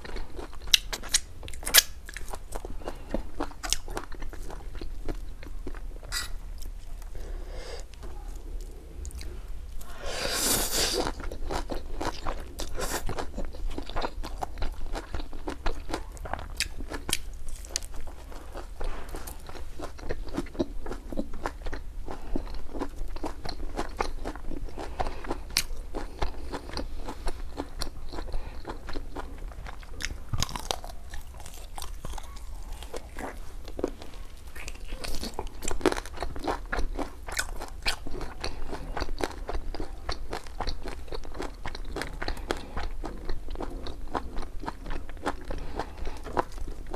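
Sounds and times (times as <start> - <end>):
crunchy chewing: 0.0 - 46.9.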